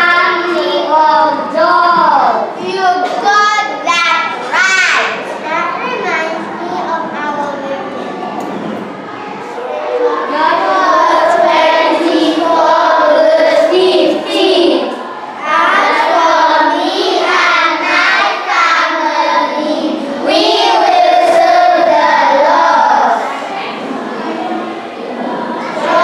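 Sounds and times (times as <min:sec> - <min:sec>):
children singing: 0:00.0 - 0:05.3, 0:09.1 - 0:26.0.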